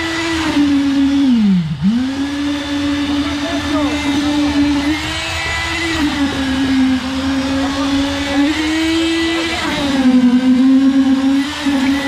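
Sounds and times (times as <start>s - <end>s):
concrete vibrator motor whining: 0.0s - 12.0s.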